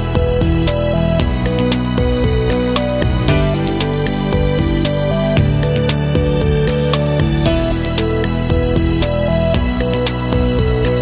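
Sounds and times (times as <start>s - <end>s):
background music melody: 0.0s - 11.0s
steady beat: 0.0s - 11.0s.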